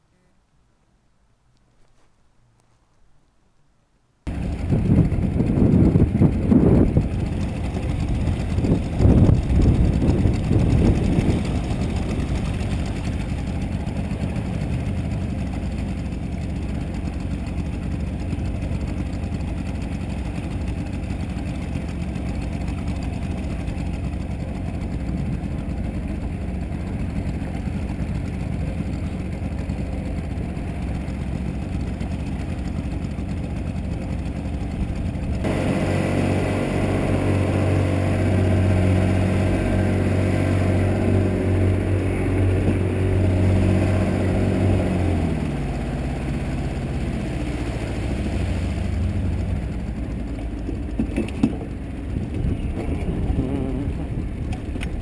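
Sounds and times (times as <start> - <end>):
outboard motor running: 4.3 - 55.0.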